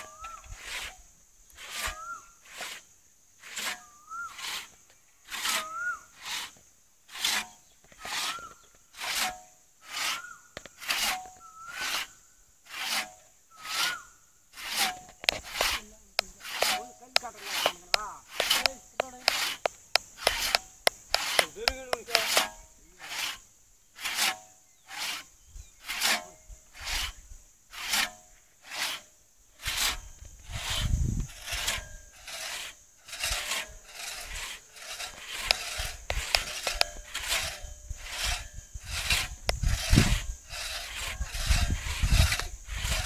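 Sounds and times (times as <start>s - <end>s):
crosscut saw rasping through log: 0.0s - 43.0s.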